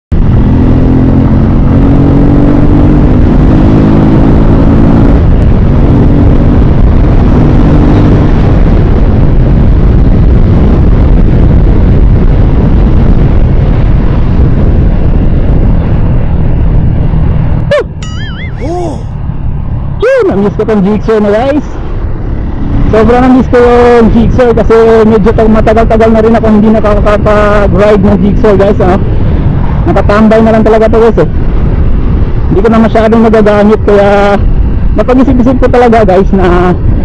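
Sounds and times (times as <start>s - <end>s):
motorcycle engine running: 0.1s - 37.0s
wind noise on microphone: 0.1s - 37.0s.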